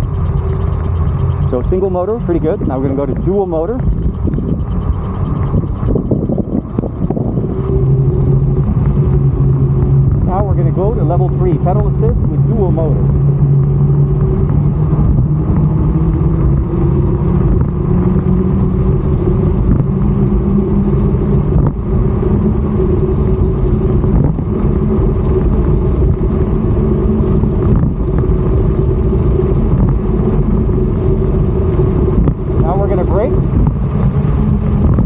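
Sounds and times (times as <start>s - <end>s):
electric scooter motor hum: 0.0s - 35.0s
wind over microphone: 0.0s - 35.0s.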